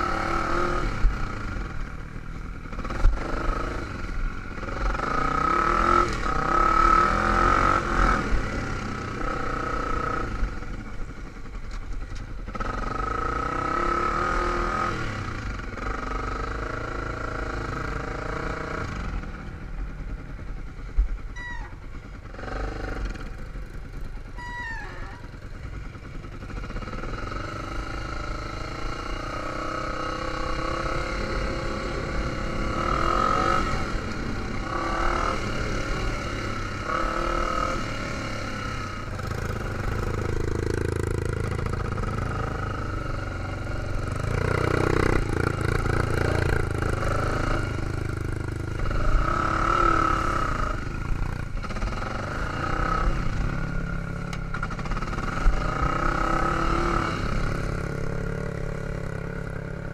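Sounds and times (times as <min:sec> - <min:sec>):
dirt bike engine revving: 0:00.0 - 0:01.9, 0:02.7 - 0:10.7, 0:12.5 - 0:19.4, 0:21.4 - 0:59.9.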